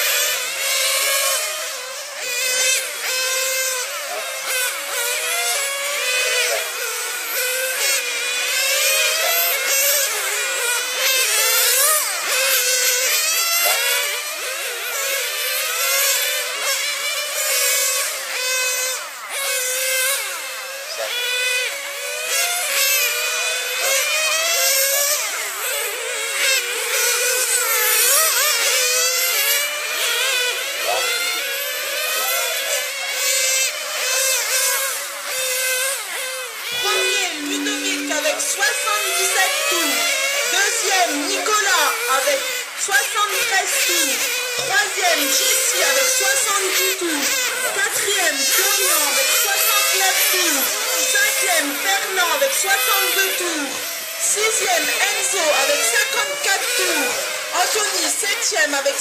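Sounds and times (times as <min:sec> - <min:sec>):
rc nitro cars racing: 0:00.0 - 0:59.0.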